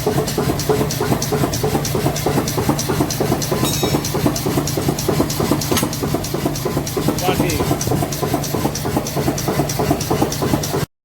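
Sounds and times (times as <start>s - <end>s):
machine humming and clattering: 0.0s - 10.9s.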